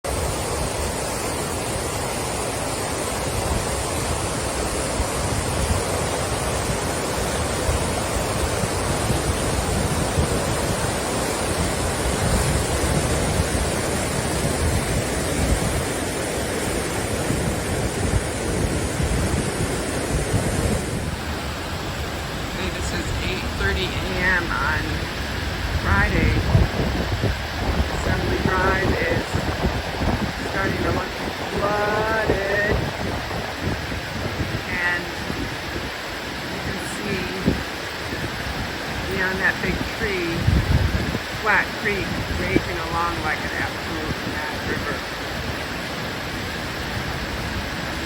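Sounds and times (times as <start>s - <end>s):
flooded creek rushing: 0.0s - 48.0s
wind buffeting microphone: 0.0s - 48.0s.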